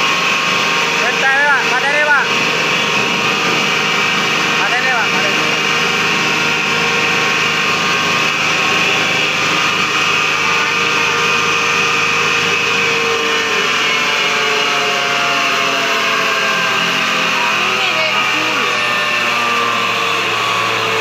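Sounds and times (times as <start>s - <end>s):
disc mill running with high whine: 0.0s - 21.0s.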